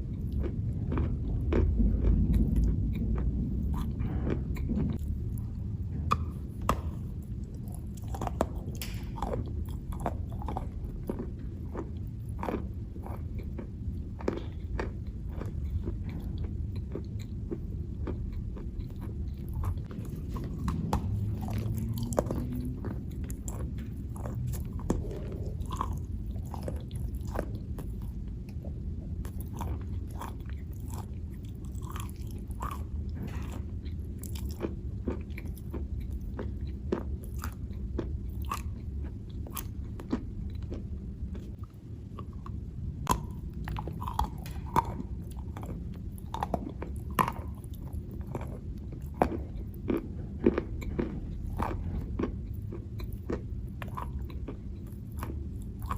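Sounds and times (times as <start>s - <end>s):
person chewing chalk crunches: 0.0s - 55.9s
steady low hum: 0.0s - 55.9s.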